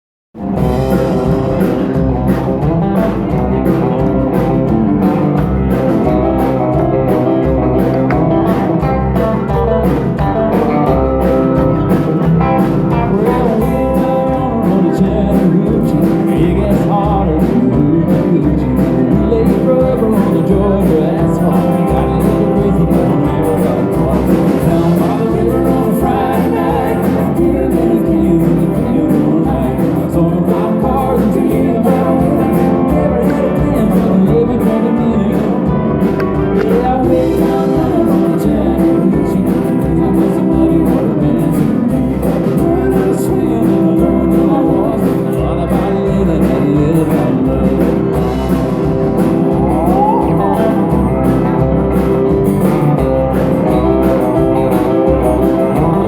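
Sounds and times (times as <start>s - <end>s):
bass and drum beat: 0.4s - 56.0s
electric guitar: 0.4s - 56.0s
person singing: 0.4s - 56.0s.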